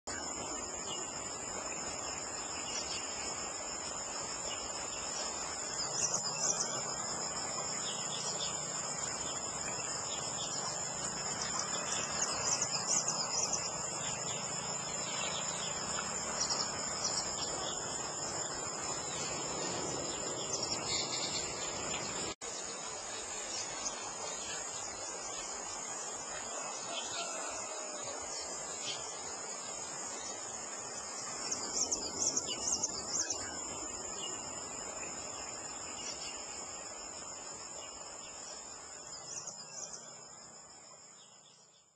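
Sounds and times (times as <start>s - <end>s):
insects chorus: 0.1s - 41.9s.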